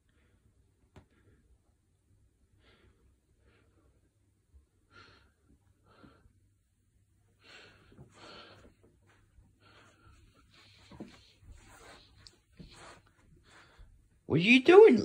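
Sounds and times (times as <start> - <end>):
soft breathy noises: 0.0 - 14.3.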